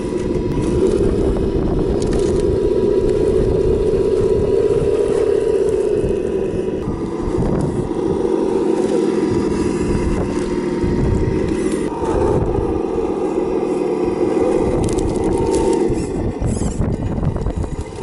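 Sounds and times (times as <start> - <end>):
toy car engine sound: 0.0 - 18.0
wind buffeting microphone: 0.0 - 18.0.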